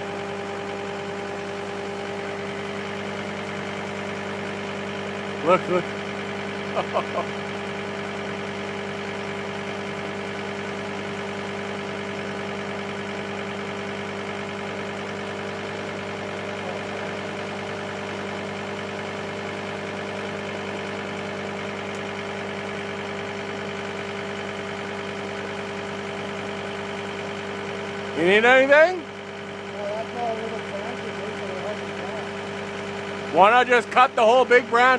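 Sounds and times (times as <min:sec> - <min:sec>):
loader engine idling: 0:00.0 - 0:34.9.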